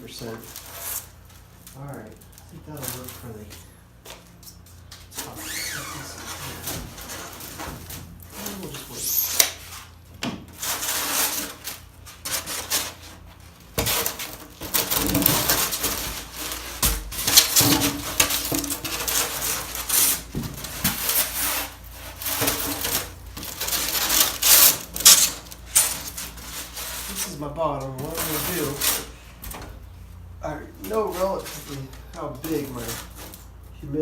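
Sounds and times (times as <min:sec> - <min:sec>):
materials rubbing and rustling: 0:00.0 - 0:34.0.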